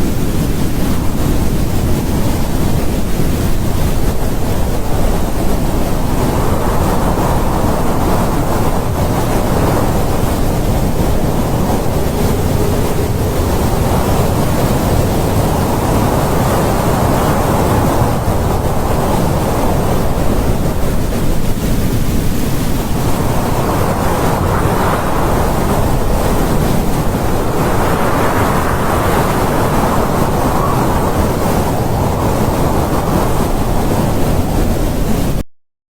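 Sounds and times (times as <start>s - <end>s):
strong wind gusting: 0.0s - 35.4s.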